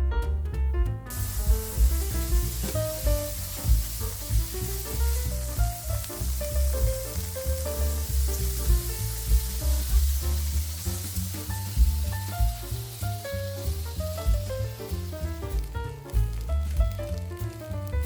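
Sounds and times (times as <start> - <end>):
food sizzling in oil: 1.1 - 17.7.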